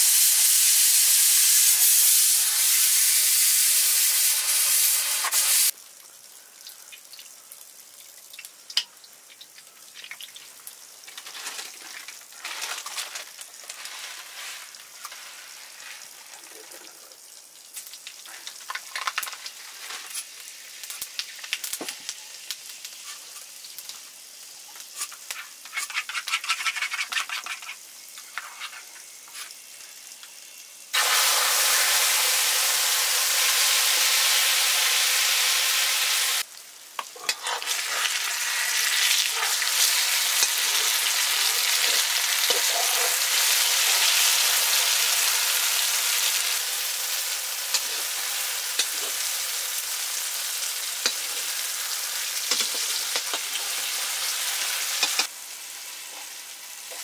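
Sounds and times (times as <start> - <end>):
food frying in hot oil: 0.0 - 57.0
loud steady sizzle: 0.0 - 57.0.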